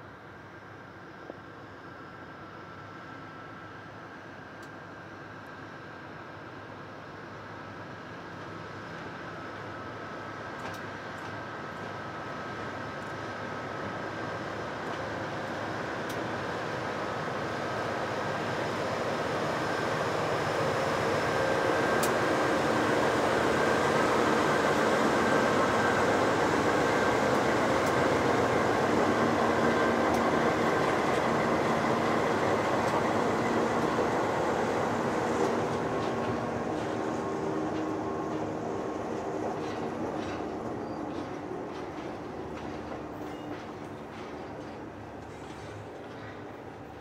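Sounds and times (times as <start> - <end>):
diesel locomotives passing: 1.8 - 47.0
wheel-on-rail noise: 9.0 - 47.0.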